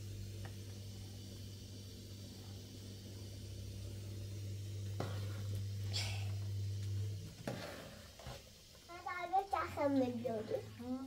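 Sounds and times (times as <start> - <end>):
gas burner humming: 0.0 - 11.0.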